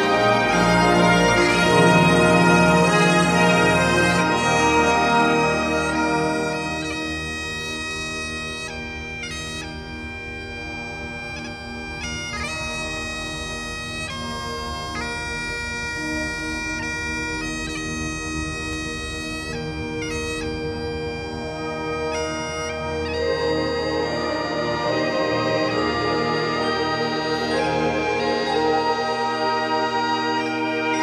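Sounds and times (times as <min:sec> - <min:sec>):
bagpipe drone: 0:00.0 - 0:31.0
bagpipes playing slow tune: 0:00.0 - 0:31.0.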